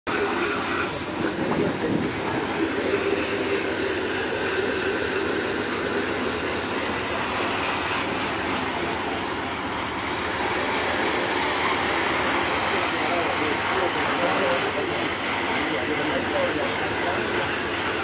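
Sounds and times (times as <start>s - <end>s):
pressure washer spraying water: 0.1s - 18.0s.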